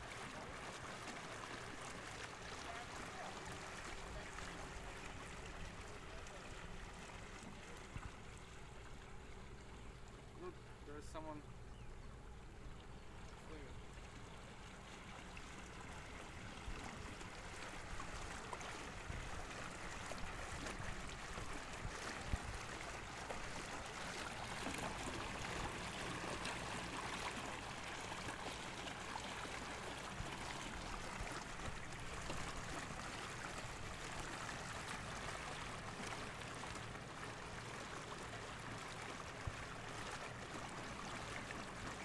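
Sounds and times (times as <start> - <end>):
water splashing along boat hull: 0.0 - 42.0.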